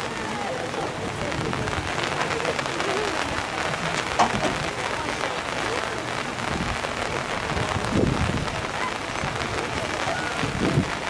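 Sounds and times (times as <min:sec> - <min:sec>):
faint voices: 0:00.0 - 0:11.0
rain pattering: 0:00.0 - 0:11.0.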